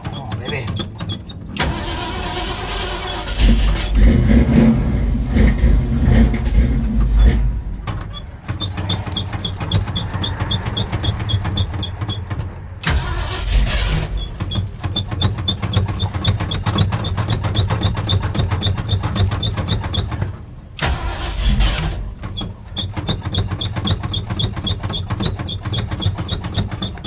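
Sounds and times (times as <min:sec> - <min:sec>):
car engine starting and running: 0:00.0 - 0:27.0
light regular engine ticking: 0:00.0 - 0:27.0.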